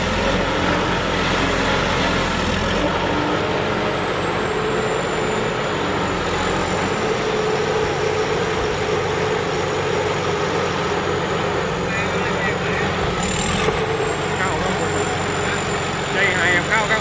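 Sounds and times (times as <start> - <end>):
combine harvester engine drone: 0.0 - 17.0.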